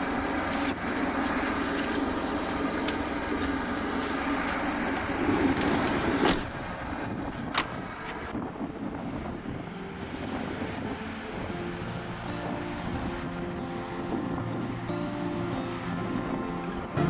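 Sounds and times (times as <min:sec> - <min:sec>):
faint music: 0:00.0 - 0:17.0
vehicle engine rumble: 0:00.0 - 0:17.0.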